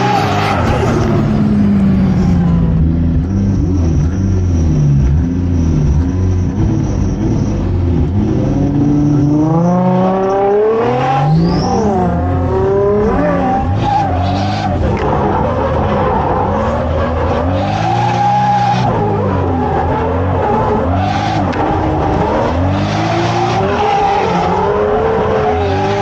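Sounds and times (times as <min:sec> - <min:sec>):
car engine revving hard: 0:03.2 - 0:26.0.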